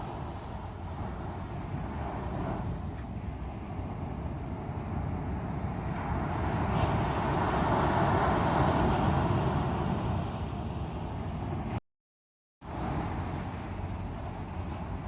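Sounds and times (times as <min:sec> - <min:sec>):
waves breaking on shore: 0:00.0 - 0:11.8, 0:12.6 - 0:15.0.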